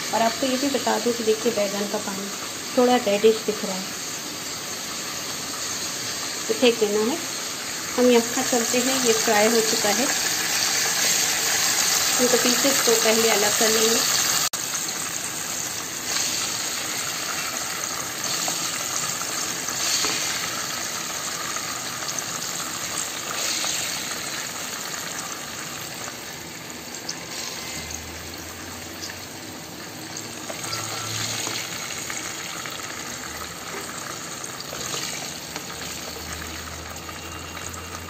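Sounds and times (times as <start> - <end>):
hot oil sizzling in a pan: 0.0 - 38.0.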